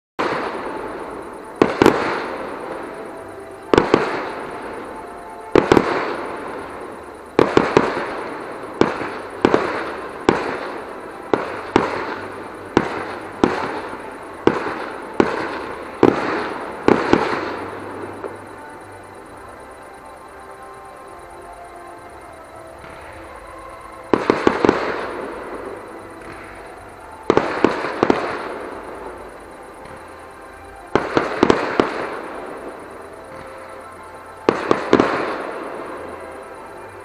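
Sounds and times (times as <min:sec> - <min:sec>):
fireworks booming: 0:00.2 - 0:37.0.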